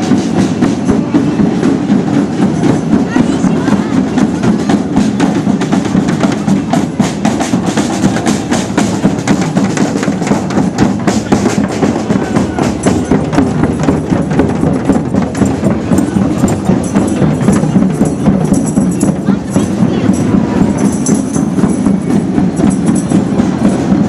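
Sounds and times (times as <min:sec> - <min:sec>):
drums playing fast beat: 0:00.0 - 0:24.0.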